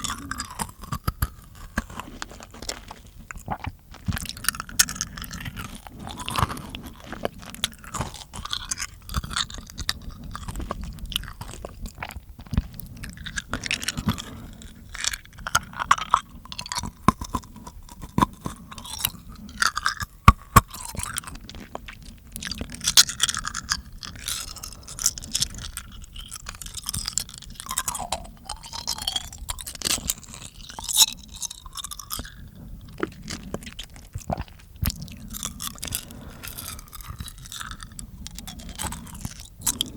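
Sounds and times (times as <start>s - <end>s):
wet mouth clicks and smacks: 3.3s - 39.9s.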